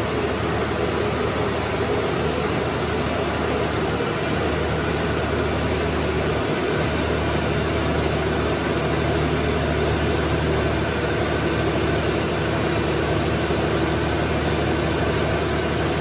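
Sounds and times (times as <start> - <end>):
diesel generator running: 0.0 - 16.0.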